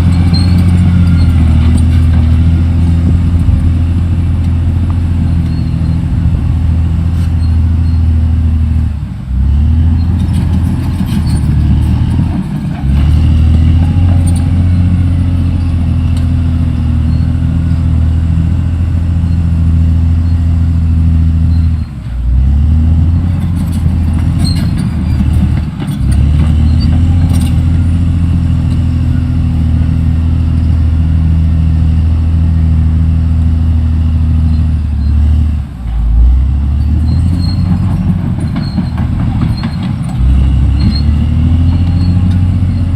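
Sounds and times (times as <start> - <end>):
bulldozer diesel engine: 0.0 - 42.9.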